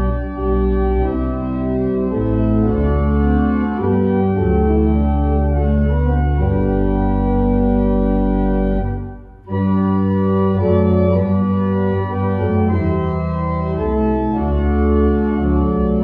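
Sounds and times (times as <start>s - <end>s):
pipe organ playing chords: 0.0s - 16.0s.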